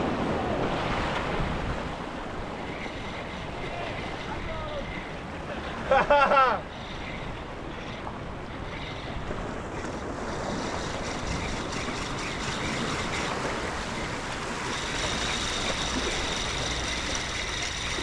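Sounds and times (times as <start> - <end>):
ocean surf washing: 0.0 - 18.0
wind buffeting microphone: 0.0 - 18.0.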